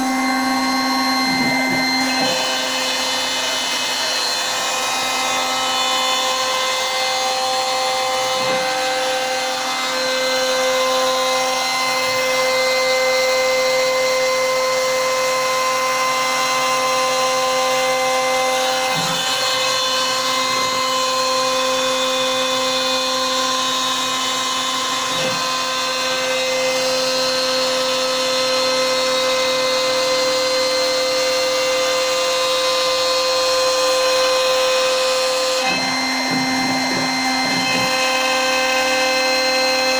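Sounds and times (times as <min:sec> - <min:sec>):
cnc router spindle whine: 0:00.0 - 0:39.9.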